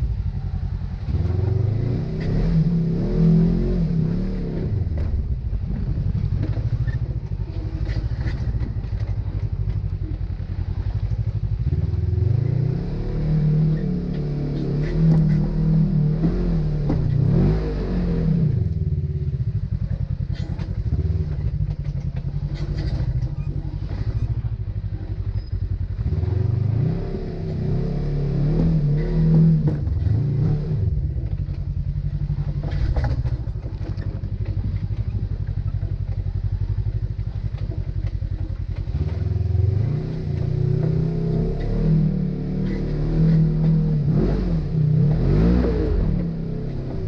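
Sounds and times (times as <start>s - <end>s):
off-road vehicle engine revving: 0.0s - 47.0s.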